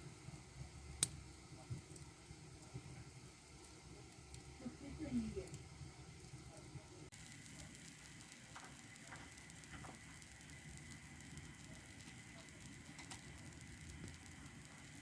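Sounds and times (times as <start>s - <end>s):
pancake batter sizzling in pan: 0.0s - 15.0s.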